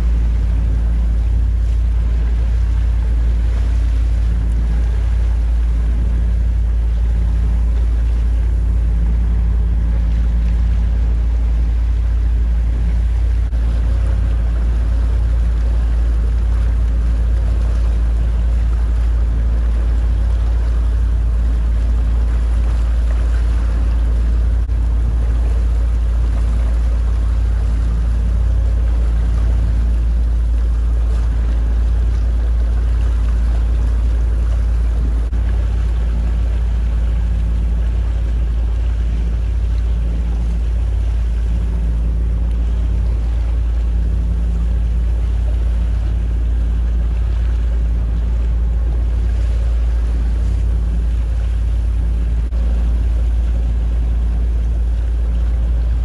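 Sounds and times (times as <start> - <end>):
motorboat engine rumble: 0.0 - 56.0
water hissing alongside boat: 0.0 - 56.0.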